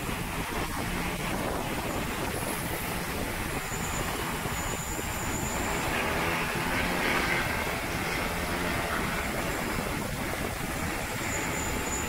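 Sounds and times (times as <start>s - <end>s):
drone propellers droning: 0.0s - 12.0s
water hissing from spray wand: 0.0s - 12.0s.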